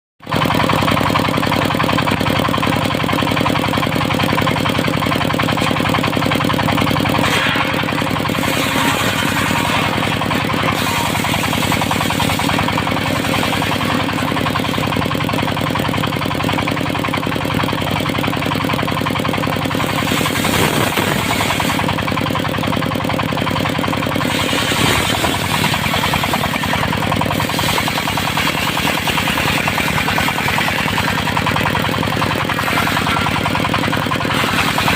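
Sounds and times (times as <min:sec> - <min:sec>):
engine beating with steady knock: 0:00.2 - 0:34.9
saw blade cutting wood: 0:03.8 - 0:34.9.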